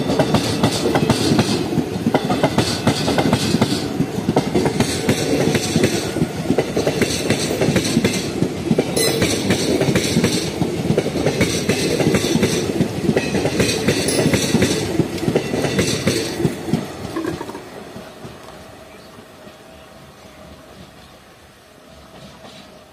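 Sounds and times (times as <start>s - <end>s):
train wheels clattering over rail joints: 0.0s - 18.6s.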